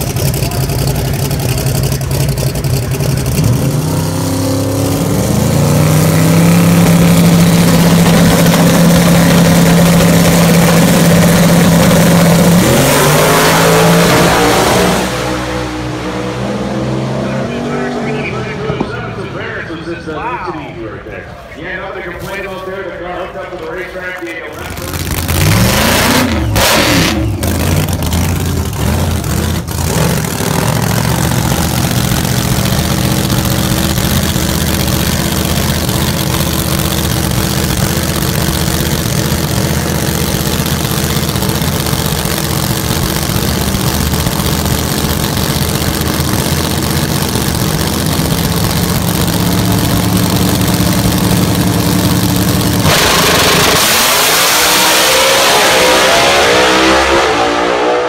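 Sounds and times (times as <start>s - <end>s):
race car engine idling and accelerating: 0.0s - 58.0s.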